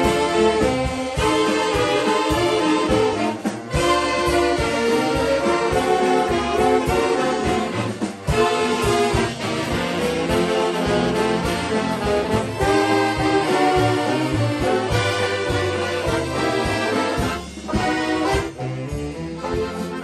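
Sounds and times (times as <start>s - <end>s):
accordions: 0.0s - 20.0s
drum kit: 0.0s - 20.0s
saxophones: 0.0s - 20.0s.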